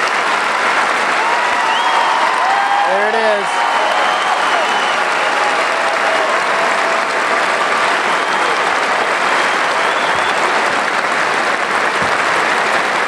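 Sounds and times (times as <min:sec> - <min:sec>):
crowd applause: 0:00.0 - 0:13.0.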